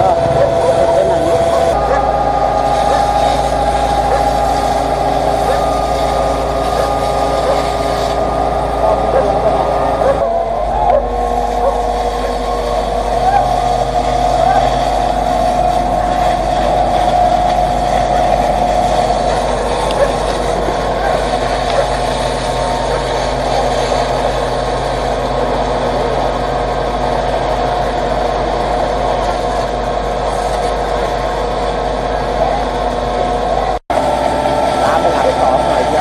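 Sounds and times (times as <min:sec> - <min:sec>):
fire truck engine running: 0:00.0 - 0:36.0.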